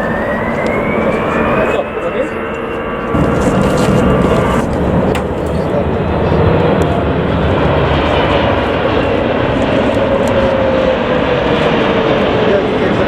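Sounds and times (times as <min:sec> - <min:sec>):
jet airliner engines: 0:00.0 - 0:13.0.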